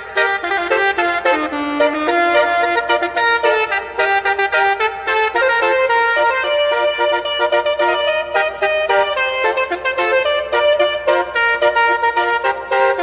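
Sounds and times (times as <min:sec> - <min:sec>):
musical air horn tune: 0:00.0 - 0:13.0.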